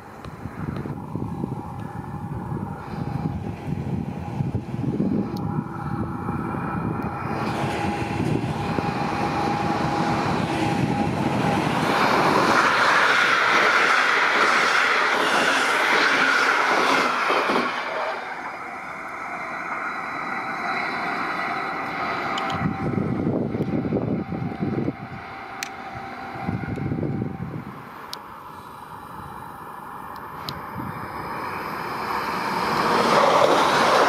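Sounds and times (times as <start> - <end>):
rush of air: 0.0 - 34.0
train wheels on rails: 0.0 - 34.0.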